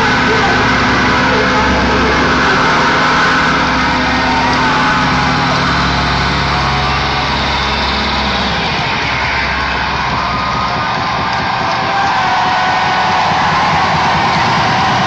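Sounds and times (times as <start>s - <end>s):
distorted live dance music: 0.0s - 15.0s.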